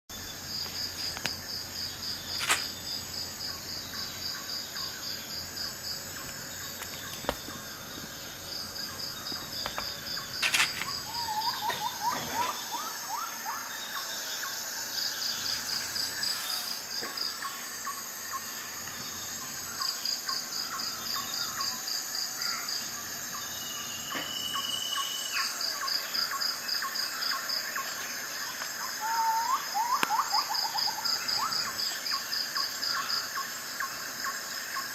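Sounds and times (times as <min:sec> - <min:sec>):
insects chirping in rapid pulses: 0:00.1 - 0:34.9
steady high hiss: 0:00.1 - 0:34.9.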